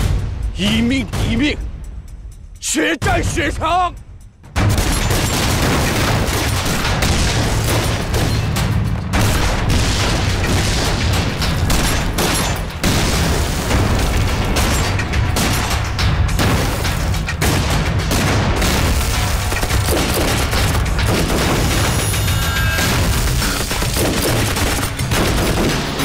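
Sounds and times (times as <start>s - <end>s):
artillery shells exploding: 4.6s - 26.0s
gunfire: 4.6s - 26.0s.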